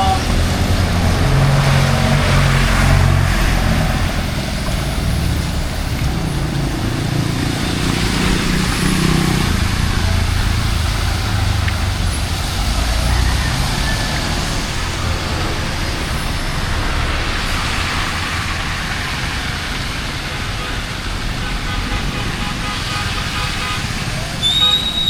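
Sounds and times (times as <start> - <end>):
heavy rain hissing: 0.0 - 21.4
car and truck engines: 0.0 - 25.0.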